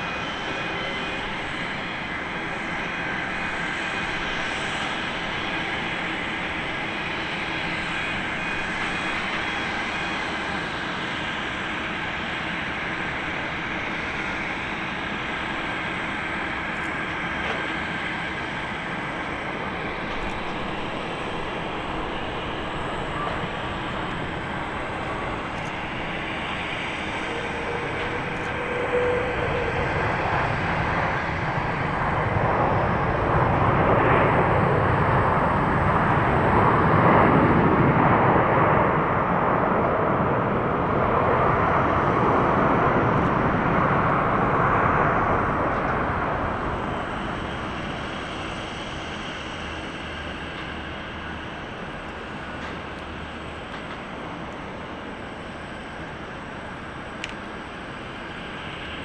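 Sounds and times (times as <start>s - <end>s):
jet engines reverse thrust: 0.0s - 59.0s.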